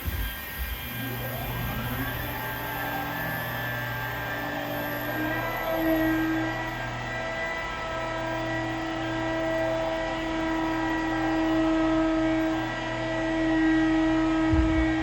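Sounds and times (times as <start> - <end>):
electric polisher running: 0.0 - 15.0.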